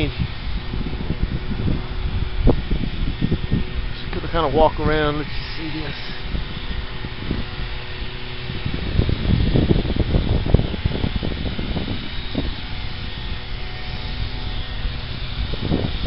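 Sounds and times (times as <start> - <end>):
outdoor rumbling noise: 0.0 - 16.0.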